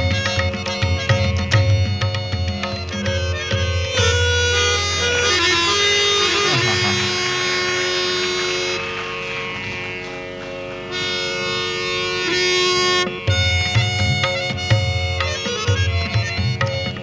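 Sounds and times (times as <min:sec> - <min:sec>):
harmonium melody: 0:00.0 - 0:17.0
tabla strokes: 0:00.0 - 0:17.0.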